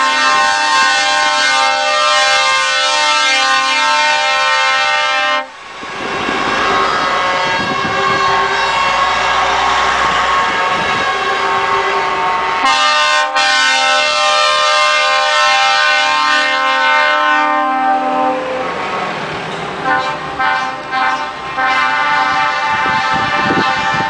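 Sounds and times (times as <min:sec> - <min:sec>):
truck air horn blast: 0:00.0 - 0:05.6, 0:06.7 - 0:18.8, 0:19.8 - 0:24.0
diesel trucks passing: 0:00.1 - 0:24.0.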